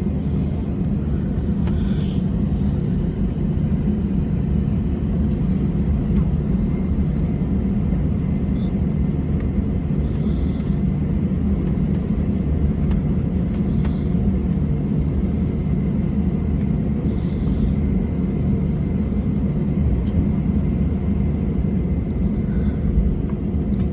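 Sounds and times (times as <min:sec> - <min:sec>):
aircraft cabin engine rumble: 0:00.0 - 0:23.9.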